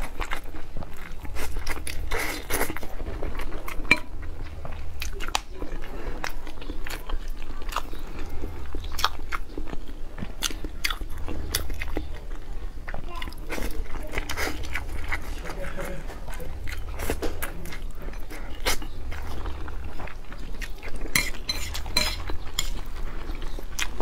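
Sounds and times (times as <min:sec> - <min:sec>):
noodles slurped and chewed: 0:00.0 - 0:24.0.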